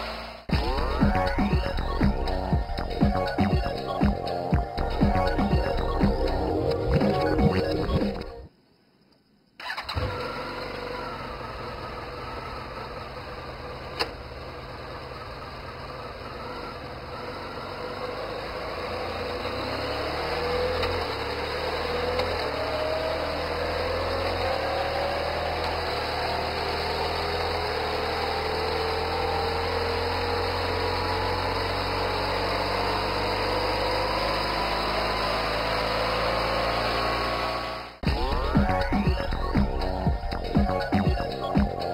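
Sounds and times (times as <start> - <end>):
motorcycle engine starting and running: 0.0 - 8.4, 9.6 - 41.9.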